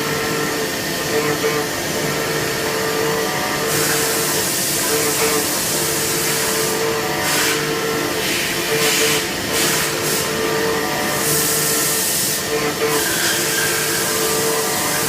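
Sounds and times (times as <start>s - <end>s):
machine whining tone: 0.0s - 15.0s.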